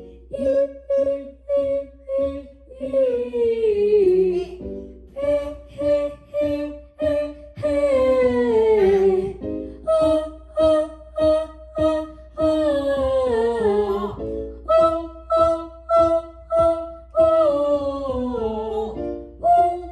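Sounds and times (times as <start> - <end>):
child singing warm-up notes: 0.0 - 19.9.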